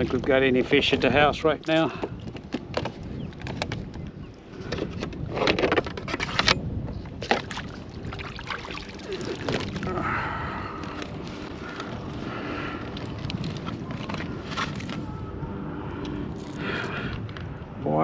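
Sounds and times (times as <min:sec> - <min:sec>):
water sloshing: 0:00.0 - 0:06.5, 0:07.1 - 0:15.2.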